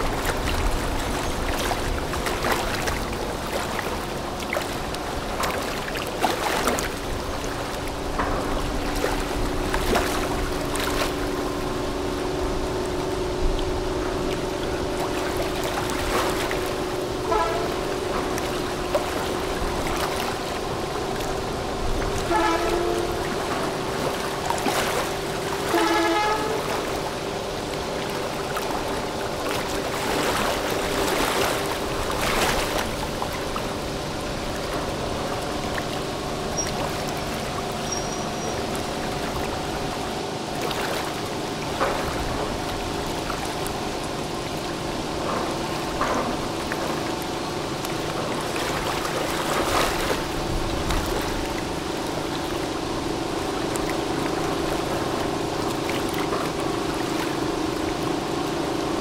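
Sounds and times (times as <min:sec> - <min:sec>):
churning water: 0:00.0 - 0:59.0
diesel engines droning: 0:06.9 - 0:59.0.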